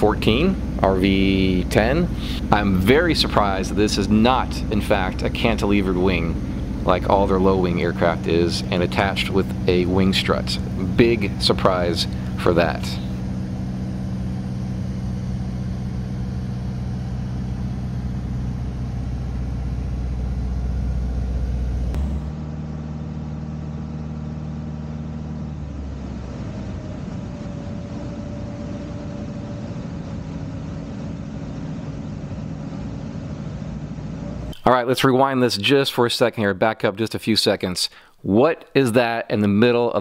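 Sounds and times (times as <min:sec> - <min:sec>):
light aircraft engine and propeller: 0:00.0 - 0:34.6.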